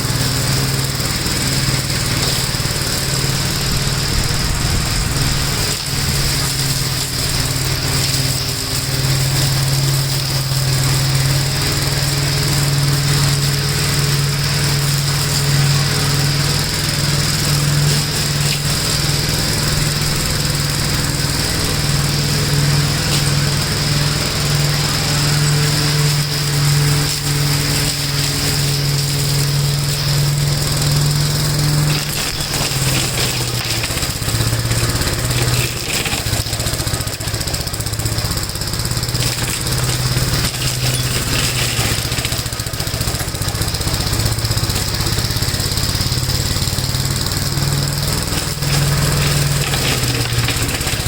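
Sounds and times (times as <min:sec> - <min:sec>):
single-cylinder engine running: 0:00.0 - 0:51.0.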